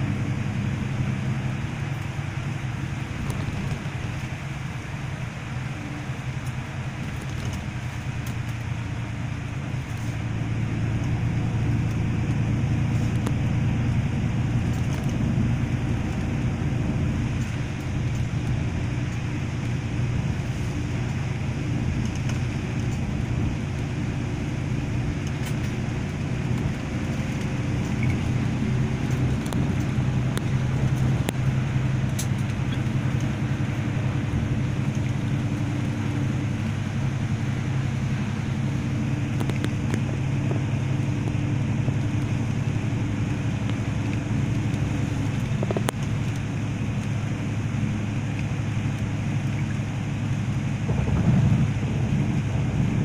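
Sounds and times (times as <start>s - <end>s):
tyre noise on wet road: 0.0s - 53.0s
vehicle engine hum: 0.0s - 53.0s.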